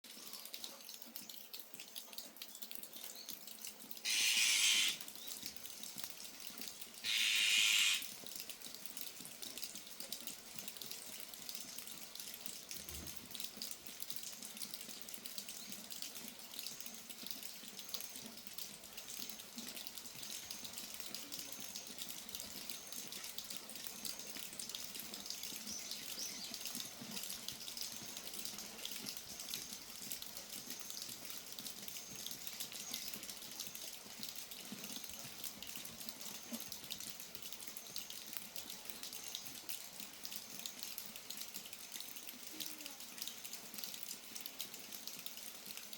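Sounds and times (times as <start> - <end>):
steady rain: 0.0 - 45.9
water dripping: 0.1 - 45.9.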